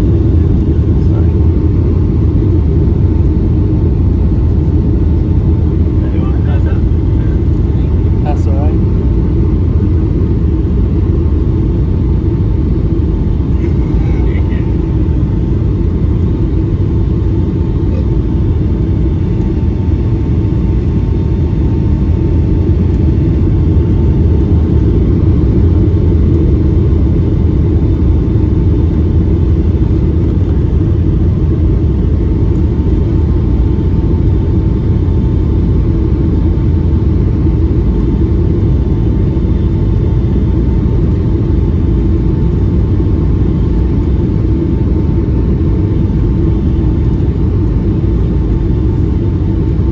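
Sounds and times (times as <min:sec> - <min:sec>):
airliner cabin engine rush: 0:00.0 - 0:49.9
faint steady whine: 0:00.0 - 0:49.9.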